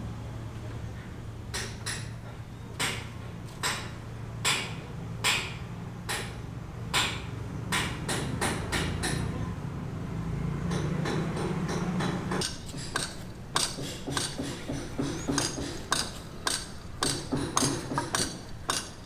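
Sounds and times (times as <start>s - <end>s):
hammer strikes: 1.5s - 9.3s, 10.7s - 19.0s.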